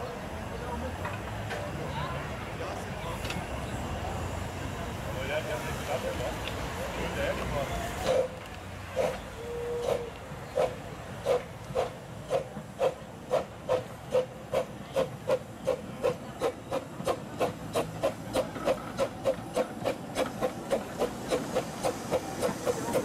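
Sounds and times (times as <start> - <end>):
steam locomotive chuffing: 2.4 - 23.0
steam hissing: 3.6 - 23.0.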